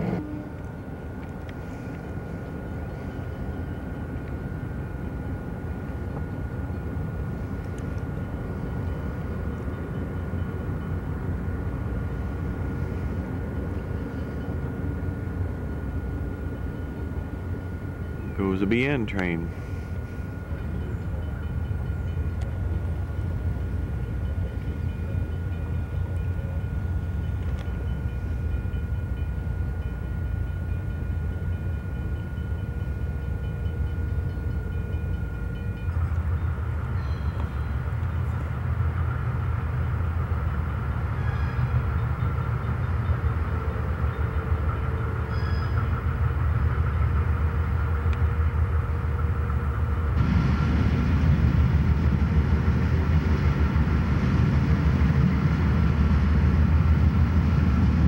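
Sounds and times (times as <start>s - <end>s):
diesel locomotive engines rumbling: 0.0s - 58.0s.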